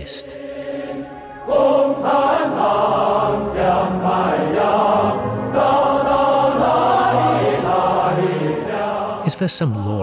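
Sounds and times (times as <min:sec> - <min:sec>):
choir singing: 0:00.0 - 0:10.0
music: 0:00.0 - 0:10.0.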